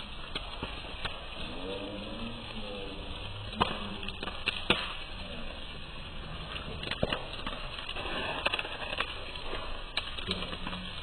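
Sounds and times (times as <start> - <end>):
dry leaves burning and crackling: 0.0 - 11.0
fire pops: 0.0 - 11.0.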